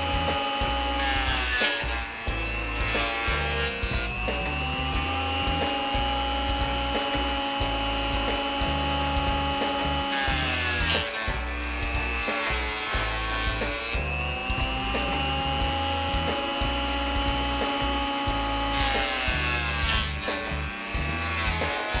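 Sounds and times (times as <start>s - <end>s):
background music: 0.0s - 22.0s
jointer motor whining cutting wood: 0.0s - 22.0s.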